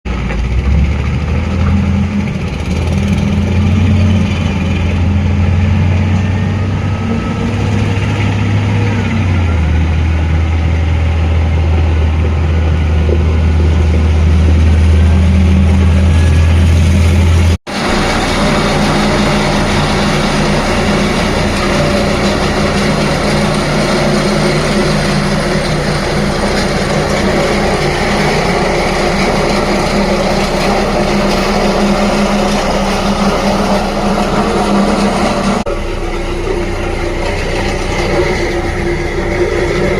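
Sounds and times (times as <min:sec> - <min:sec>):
road roller engine running: 0:00.0 - 0:39.9
steady engine sound: 0:00.0 - 0:39.9.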